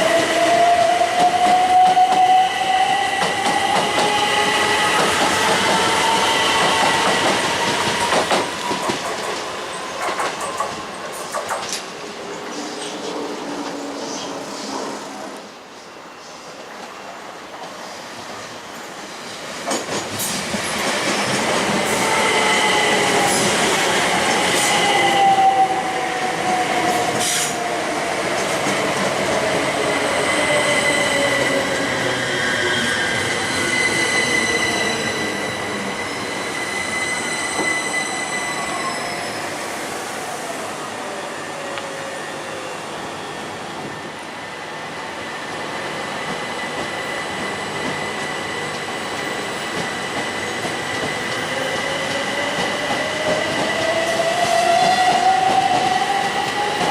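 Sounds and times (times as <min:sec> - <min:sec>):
train whine: 0:00.0 - 0:56.9.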